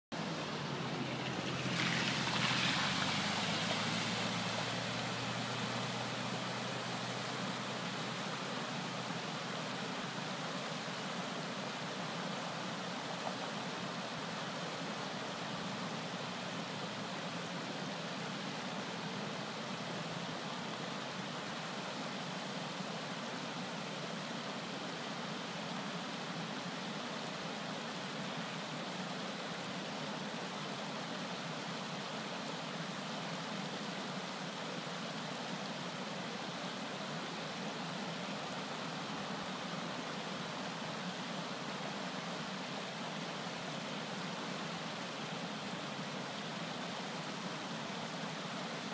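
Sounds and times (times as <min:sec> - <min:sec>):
floodwater rushing over road: 0:00.2 - 0:48.9.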